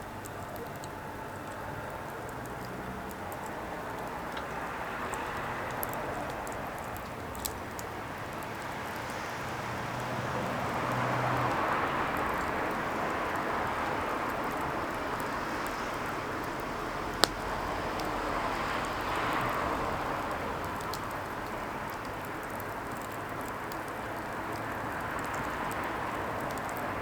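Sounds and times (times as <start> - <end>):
fire crackles and pops: 0.0 - 27.0.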